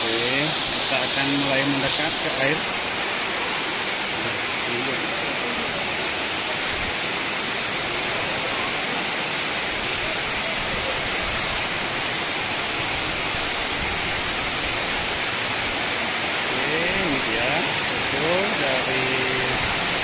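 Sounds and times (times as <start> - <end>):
waterfall pouring into pool: 0.0 - 20.0.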